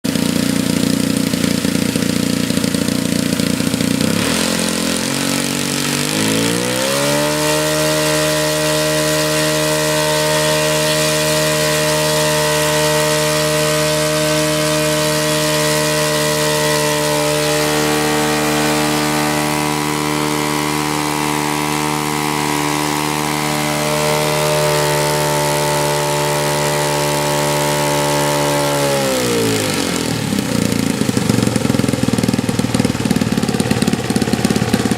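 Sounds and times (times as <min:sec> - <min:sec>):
model airplane engine running: 0:00.0 - 0:34.9.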